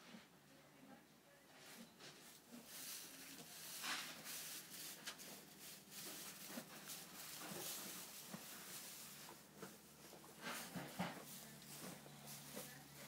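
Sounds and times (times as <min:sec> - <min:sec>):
hooves scuffing in straw: 0:01.6 - 0:13.0.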